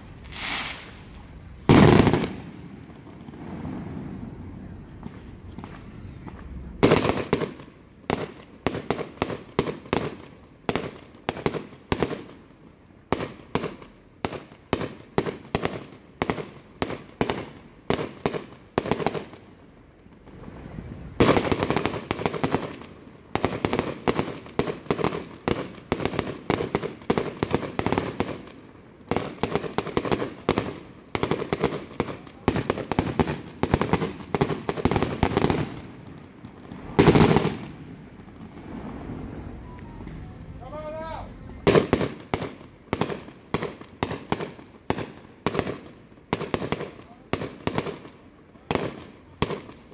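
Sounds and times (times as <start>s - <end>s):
fireworks bursting: 0.0s - 49.9s.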